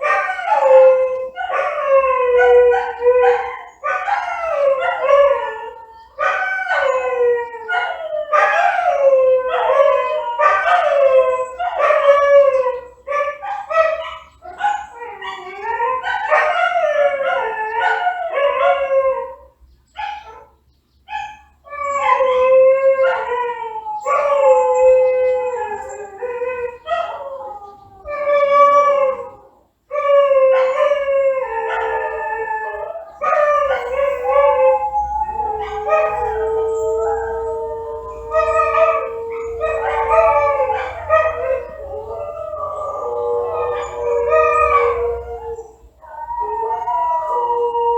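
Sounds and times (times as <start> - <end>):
dog howling: 0.0 - 19.5, 21.2 - 47.9.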